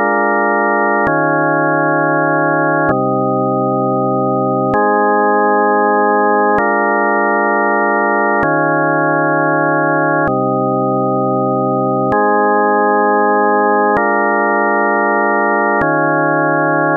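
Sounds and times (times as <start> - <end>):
synthesized organ-like chords: 0.0 - 16.9.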